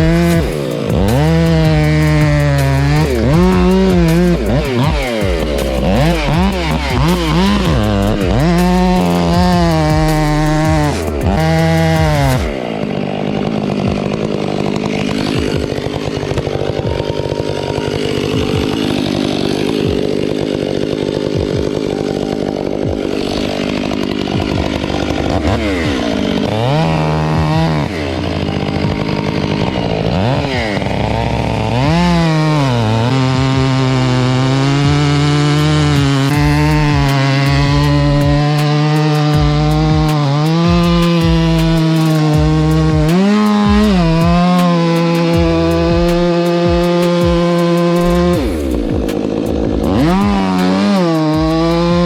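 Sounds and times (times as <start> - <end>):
chainsaw revving and cutting: 0.0 - 52.0.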